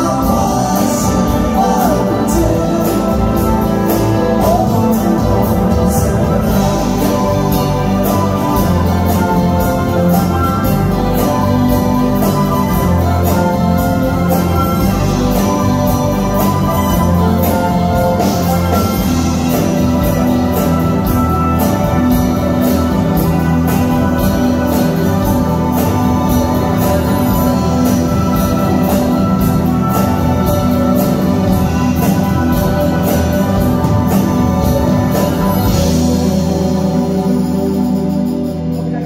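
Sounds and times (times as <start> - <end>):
electric guitar: 0.0 - 39.0
live rock band playing: 0.0 - 39.0
synth keyboards: 0.0 - 39.0.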